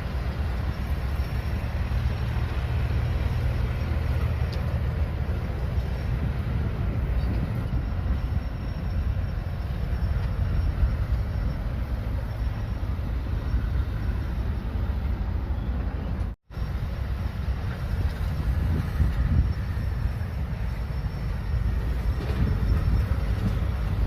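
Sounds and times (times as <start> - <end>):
diesel engine rumbling: 0.0 - 24.0.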